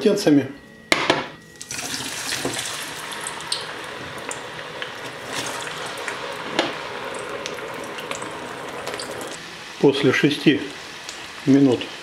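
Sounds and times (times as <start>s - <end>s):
potatoes sizzling in hot oil: 1.6s - 12.0s.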